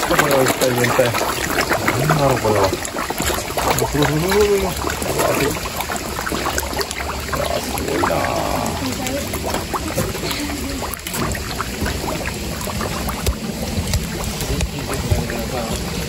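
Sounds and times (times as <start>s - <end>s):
fish splashing at water surface: 0.0s - 16.0s
fish sucking pops and slurps: 0.0s - 16.0s.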